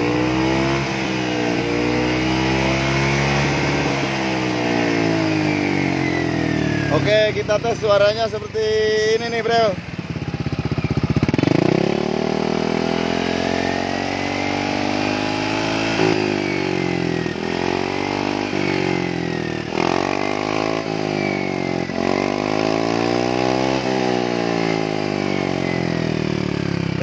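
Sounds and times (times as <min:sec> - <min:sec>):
scooter engine revving: 0:00.0 - 0:27.0.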